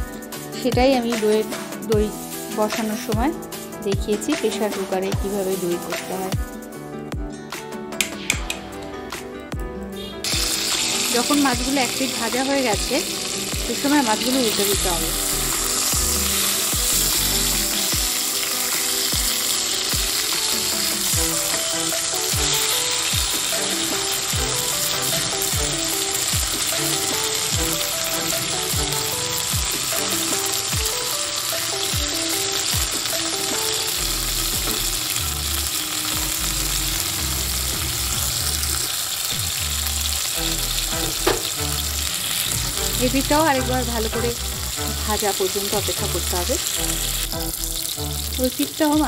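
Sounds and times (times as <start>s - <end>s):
fish sizzling in hot oil: 0.0s - 6.4s, 10.0s - 49.0s.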